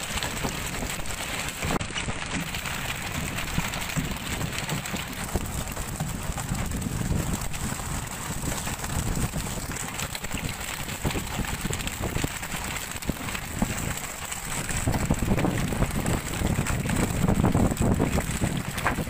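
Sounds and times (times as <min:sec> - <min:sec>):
small crackling knocks: 0:00.0 - 0:19.0
wind buffeting microphone: 0:00.0 - 0:19.0.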